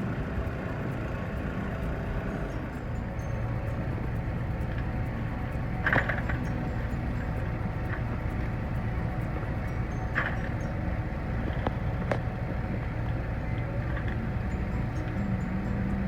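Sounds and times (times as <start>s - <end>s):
construction machine engine rumbling: 0.0s - 16.0s
short metallic clinks: 2.8s - 16.0s.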